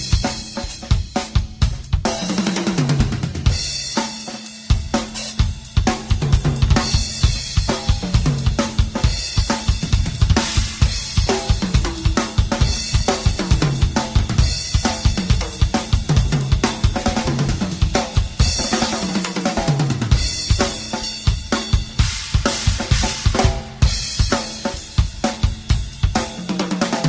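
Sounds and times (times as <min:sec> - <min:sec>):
drum kit playing: 0:00.0 - 0:27.0.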